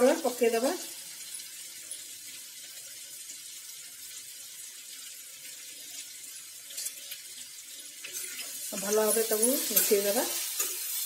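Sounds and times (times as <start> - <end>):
okra sizzling in oil: 0.0 - 11.0.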